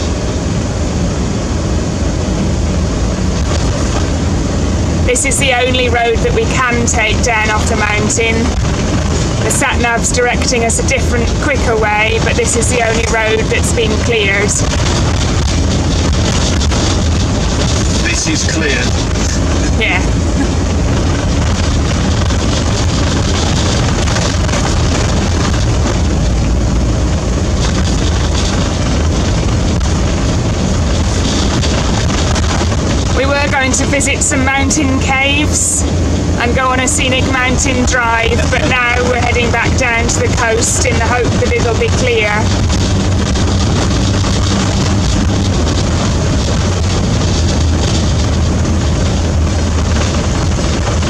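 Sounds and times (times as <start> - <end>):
road noise: 0.0 - 51.0
van engine and tyre rumble: 0.0 - 51.0.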